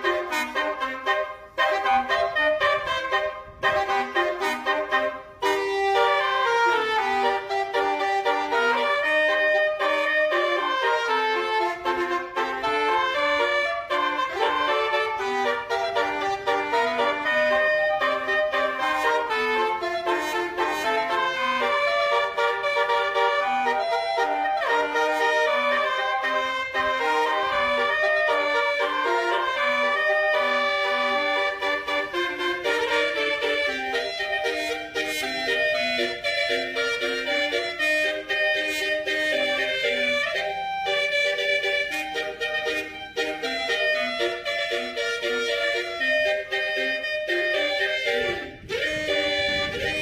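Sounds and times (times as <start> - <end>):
musical horn melody: 0.0 - 50.0.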